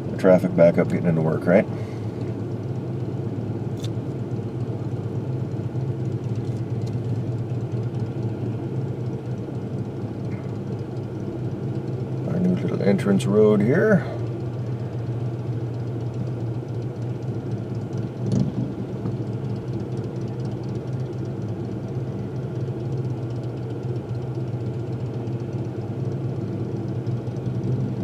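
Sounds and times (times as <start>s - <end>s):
car engine hum: 0.0s - 28.0s
road noise inside car: 0.0s - 28.0s.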